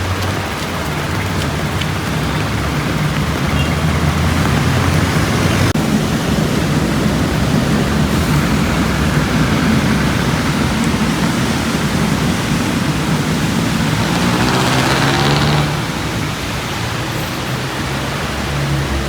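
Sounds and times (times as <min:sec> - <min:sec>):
heavy rain hissing: 0:00.0 - 0:19.0
traffic engines humming: 0:00.0 - 0:19.0
vehicle passing by: 0:00.5 - 0:05.8, 0:07.3 - 0:19.0.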